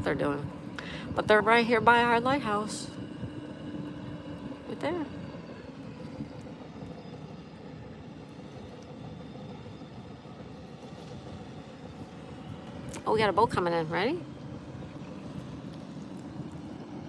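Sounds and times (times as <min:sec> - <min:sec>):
distant engine drone: 0:00.0 - 0:17.0.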